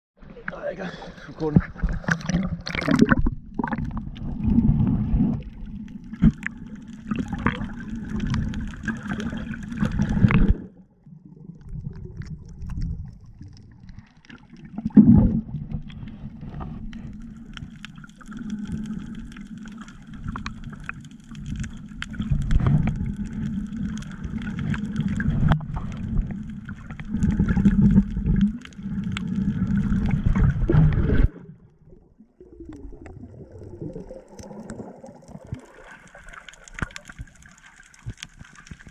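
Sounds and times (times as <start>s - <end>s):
muffled underwater rumble: 0.2s - 38.9s
water sloshing and gurgling: 0.2s - 38.9s.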